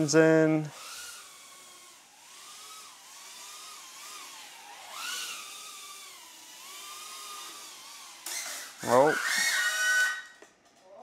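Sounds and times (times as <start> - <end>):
drone motors whining: 0.0 - 10.4.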